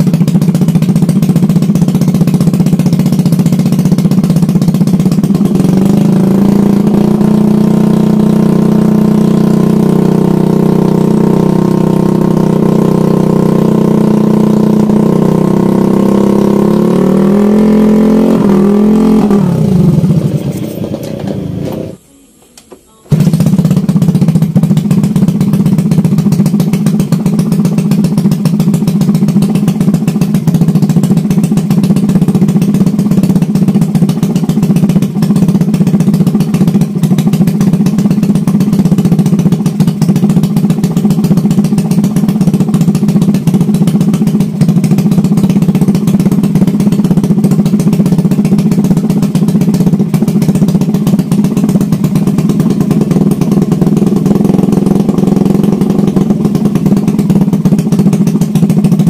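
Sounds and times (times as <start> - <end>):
motorcycle engine running steadily: 0.0 - 22.0, 23.0 - 59.0.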